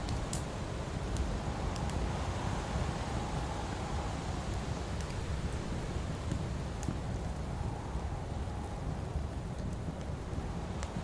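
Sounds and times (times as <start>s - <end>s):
campfire crackling and popping: 0.0s - 11.0s
low rumble of wind: 0.0s - 11.0s.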